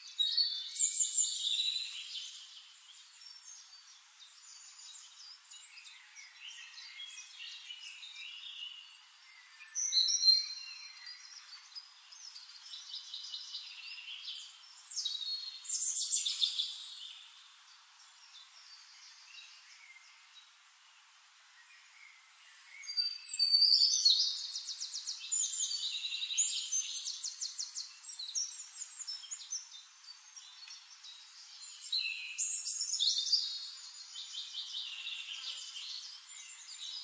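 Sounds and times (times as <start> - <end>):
birds chirping and singing: 0.0 - 20.4, 21.7 - 37.0.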